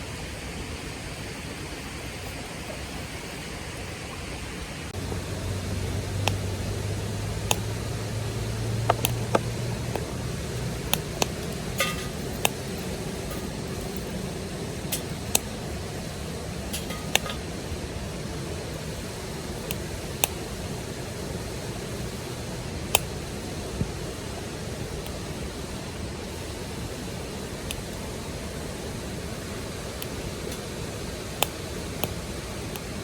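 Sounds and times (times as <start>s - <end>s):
wood fire crackling: 1.2s - 33.0s
steady rushing background: 4.9s - 33.0s.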